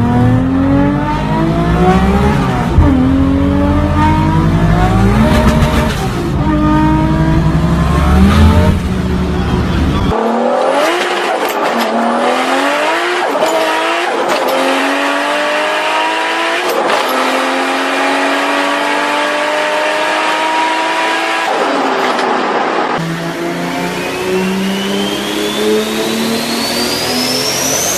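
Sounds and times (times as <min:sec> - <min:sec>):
car engine accelerating hard: 0:00.0 - 0:27.9.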